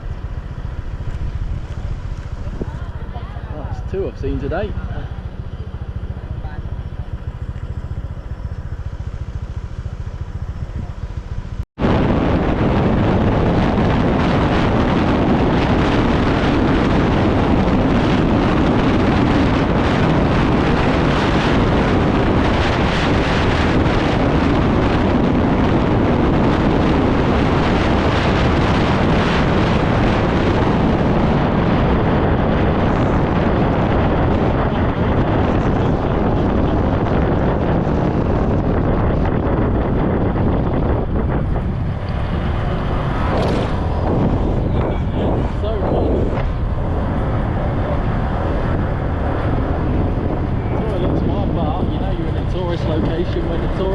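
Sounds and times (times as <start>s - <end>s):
scooter engine running: 0.0s - 53.9s
wind rushing over microphone: 0.0s - 53.9s.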